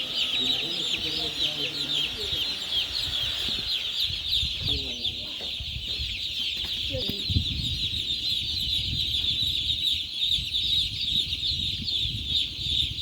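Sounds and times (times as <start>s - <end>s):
poultry flock peeping: 0.0s - 13.0s.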